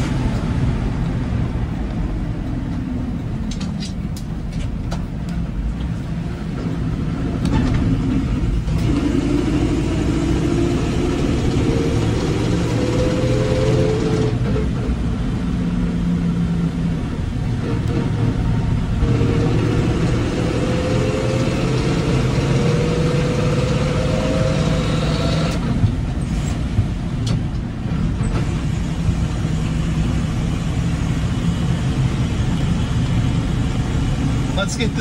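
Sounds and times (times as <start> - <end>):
truck engine accelerating: 0.0 - 35.0.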